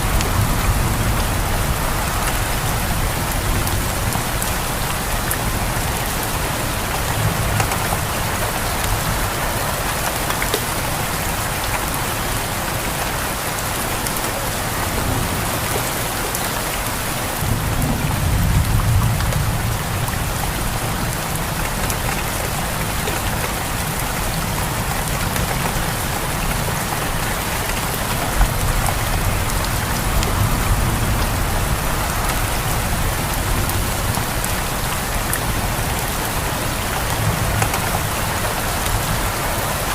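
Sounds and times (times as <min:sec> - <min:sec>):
rain pouring: 0:00.0 - 0:39.9.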